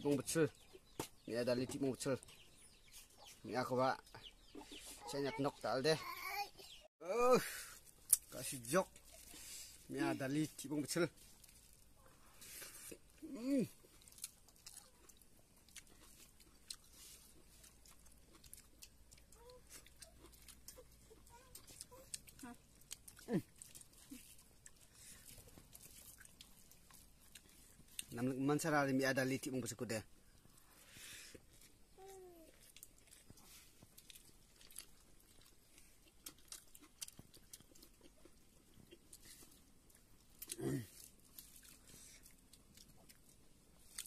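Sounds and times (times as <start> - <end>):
faint chewing: 7.6 - 44.0.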